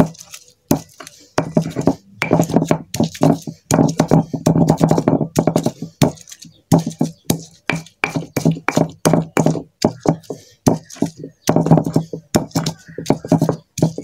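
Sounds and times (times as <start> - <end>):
pestle pounding in a mortar: 0.0 - 14.0.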